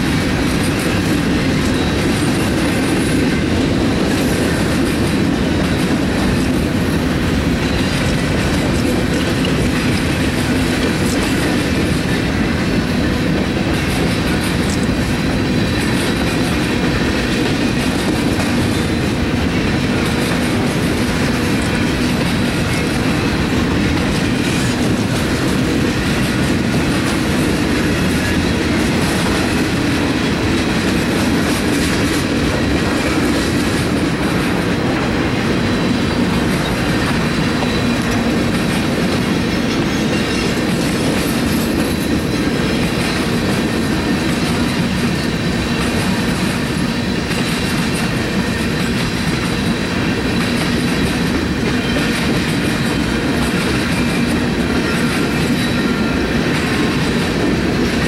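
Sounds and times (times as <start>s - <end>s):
train wheels rumbling on rails: 0.0s - 58.0s
wheels clicking over rail joints: 0.0s - 58.0s.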